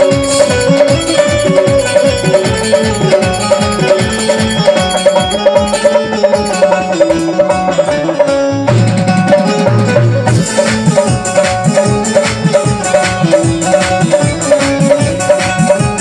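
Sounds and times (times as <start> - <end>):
banjo picking fast melody: 0.0 - 16.0
electronic keyboard: 0.0 - 16.0
steady drum beat: 0.0 - 16.0.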